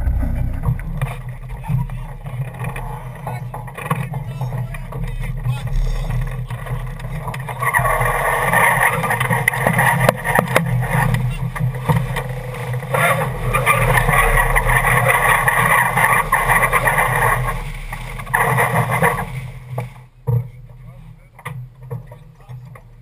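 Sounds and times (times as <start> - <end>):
rushing wind: 0.0 - 19.7
rushing water: 0.0 - 20.1.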